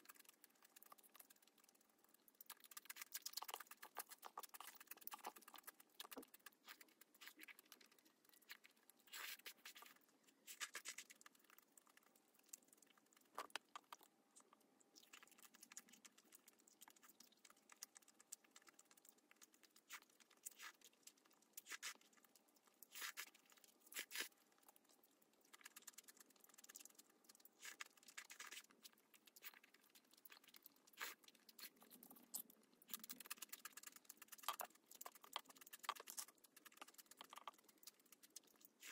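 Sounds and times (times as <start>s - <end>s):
chewing noodles: 0.0s - 38.9s
wet mouth clicks: 0.0s - 38.9s.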